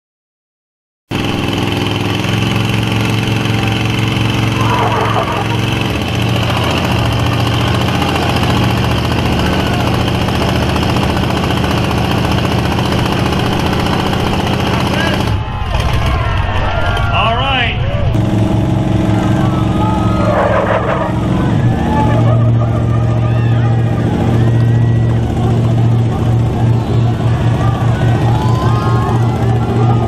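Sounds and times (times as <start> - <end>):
pickup truck engines running: 1.1 - 30.0.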